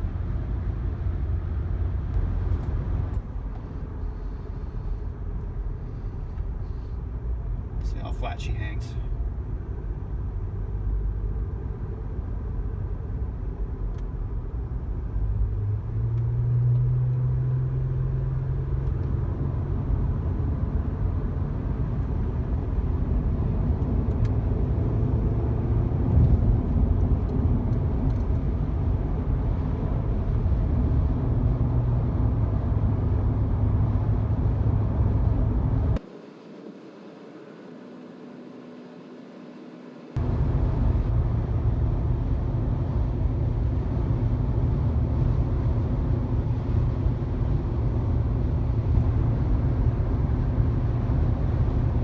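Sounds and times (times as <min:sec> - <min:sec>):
car engine hum: 0:00.0 - 0:52.0.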